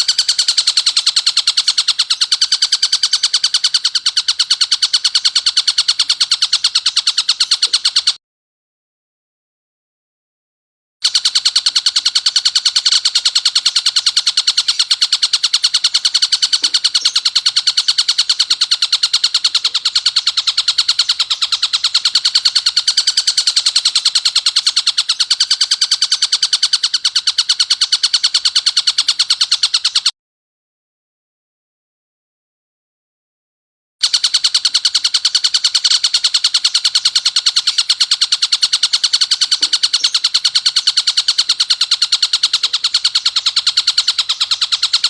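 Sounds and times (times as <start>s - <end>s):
kingfisher harsh rapid chattering: 0.0s - 8.2s, 11.0s - 30.1s, 34.0s - 45.0s.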